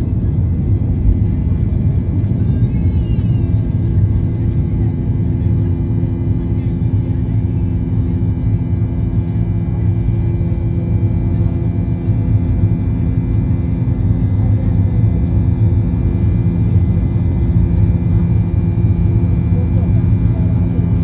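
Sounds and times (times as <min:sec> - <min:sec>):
airliner engines droning: 0:00.0 - 0:21.0.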